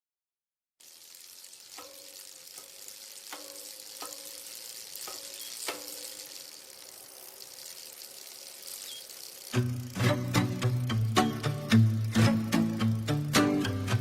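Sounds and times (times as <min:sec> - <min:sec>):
steady hiss: 0:00.8 - 0:14.0.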